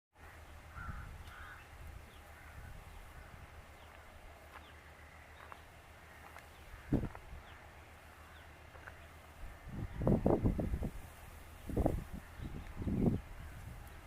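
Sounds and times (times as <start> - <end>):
harsh bird calls: 0.2 - 14.0.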